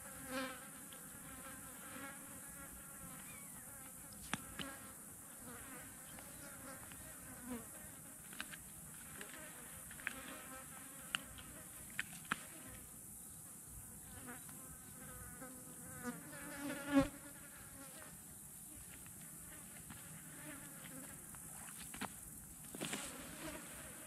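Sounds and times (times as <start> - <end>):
flies buzzing: 0.0 - 24.0.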